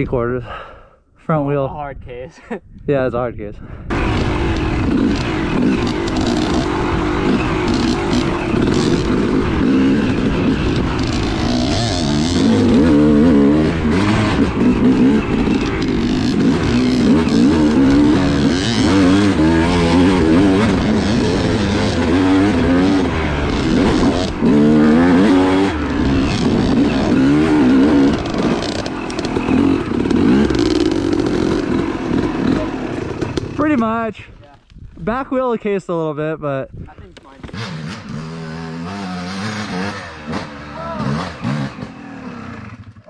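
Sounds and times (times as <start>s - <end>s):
dirt bike engine revving: 3.9s - 34.0s, 37.3s - 43.0s.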